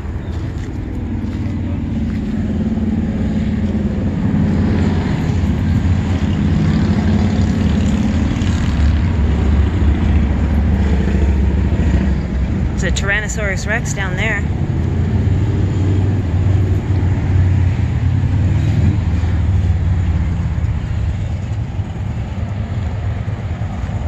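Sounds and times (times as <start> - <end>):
vehicle engine drone: 0.0 - 24.0.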